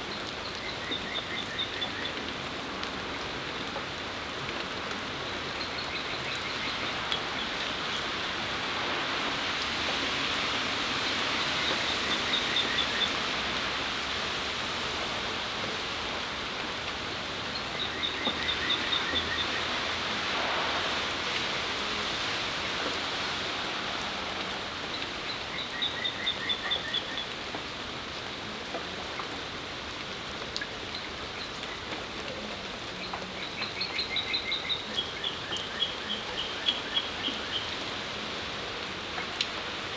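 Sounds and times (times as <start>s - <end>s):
rain falling on a patio: 0.0s - 39.9s.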